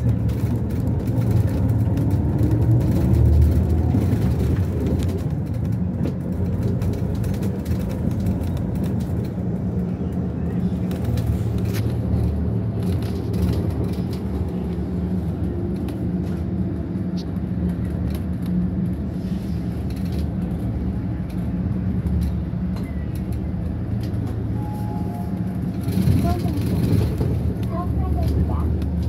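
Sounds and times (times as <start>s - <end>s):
bus engine drone: 0.0s - 29.0s
road noise: 0.0s - 29.0s.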